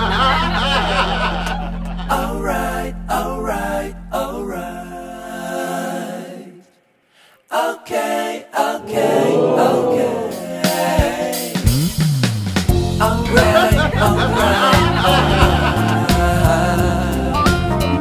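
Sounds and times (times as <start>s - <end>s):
music with singing voices: 0.0s - 18.0s.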